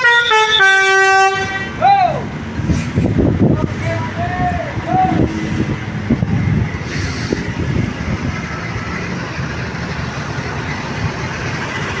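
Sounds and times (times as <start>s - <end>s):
large vehicle engine rumble: 0.0s - 12.0s
road noise: 0.0s - 12.0s.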